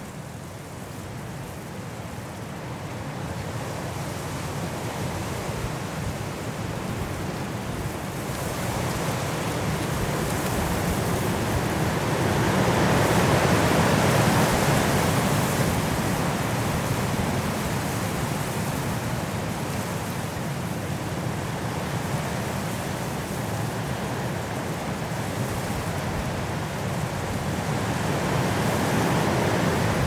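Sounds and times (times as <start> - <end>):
strong wind through trees: 0.0 - 30.0.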